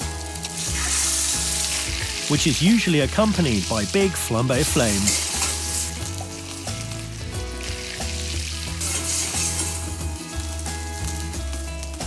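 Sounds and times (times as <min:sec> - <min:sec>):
food sizzling in frying pan: 0:00.0 - 0:12.0
flambe flames: 0:00.1 - 0:04.0, 0:04.7 - 0:12.0.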